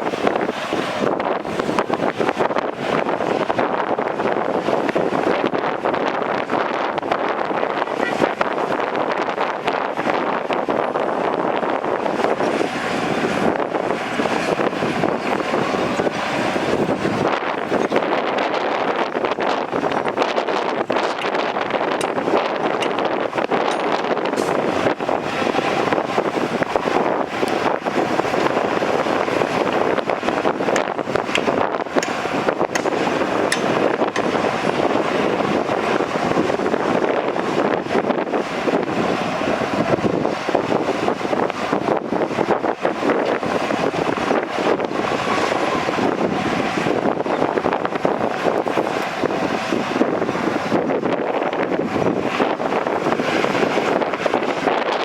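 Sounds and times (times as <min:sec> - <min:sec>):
heavy diesel machinery running: 0:00.0 - 0:55.0
wind buffeting microphone: 0:00.0 - 0:55.0.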